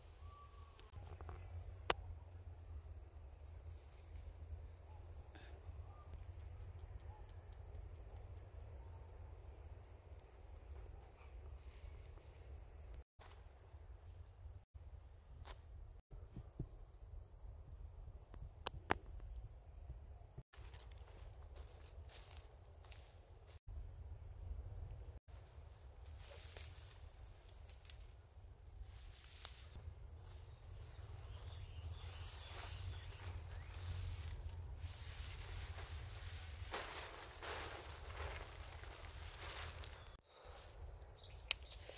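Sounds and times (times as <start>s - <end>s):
insects trilling: 0.0s - 17.6s, 18.2s - 41.9s.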